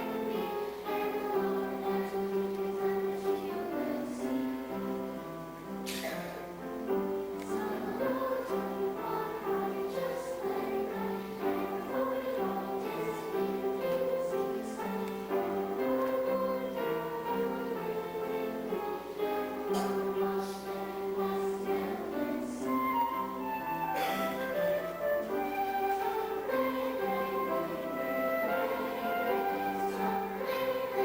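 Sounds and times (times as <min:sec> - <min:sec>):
choir singing with accompaniment: 0:00.0 - 0:31.0.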